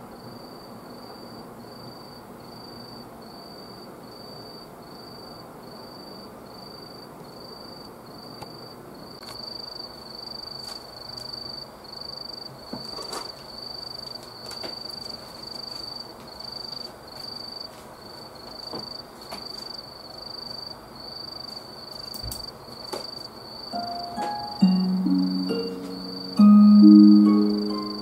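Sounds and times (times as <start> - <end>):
background hiss: 0.0 - 28.0
cricket chirping: 0.2 - 28.0.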